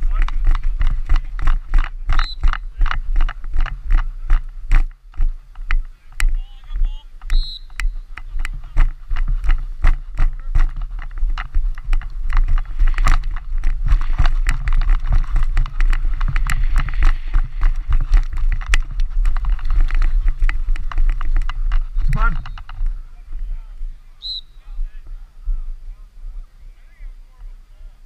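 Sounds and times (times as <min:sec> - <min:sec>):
camera knocking on helmet: 0:00.0 - 0:23.0
wind buffeting microphone: 0:00.0 - 0:27.6.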